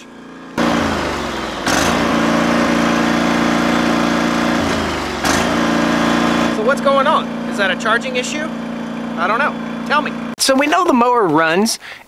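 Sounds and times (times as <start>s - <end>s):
riding mower engine running: 0.0s - 10.4s.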